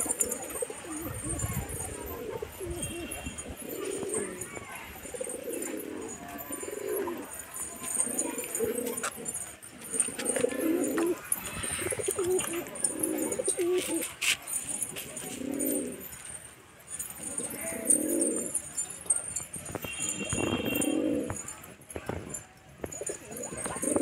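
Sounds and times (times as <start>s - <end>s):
pigeons cooing: 0.0s - 21.6s, 22.9s - 24.0s.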